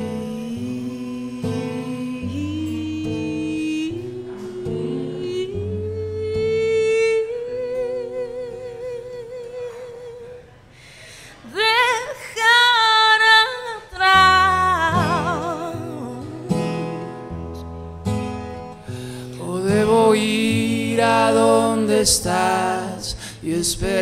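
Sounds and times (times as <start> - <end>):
strummed acoustic guitar: 0.0 - 10.6, 14.0 - 24.0
woman singing wordless line: 0.0 - 10.6, 11.4 - 17.4, 19.4 - 24.0.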